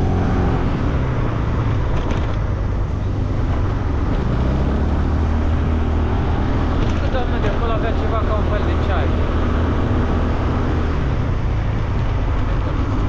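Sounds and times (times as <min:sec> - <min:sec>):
road and wind rushing: 0:00.0 - 0:13.0.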